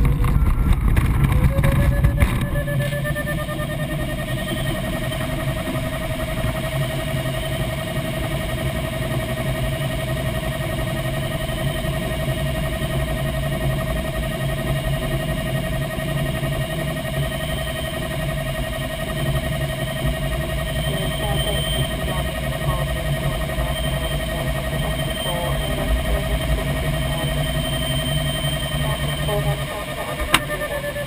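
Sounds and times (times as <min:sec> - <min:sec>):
airflow rushing in cockpit: 0:00.0 - 0:31.0
constant high tone: 0:00.0 - 0:31.0.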